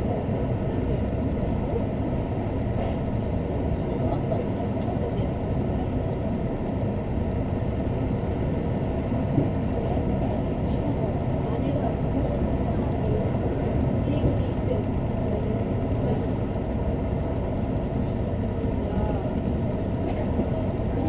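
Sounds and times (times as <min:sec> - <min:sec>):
train rumbling from inside: 0:00.0 - 0:21.0.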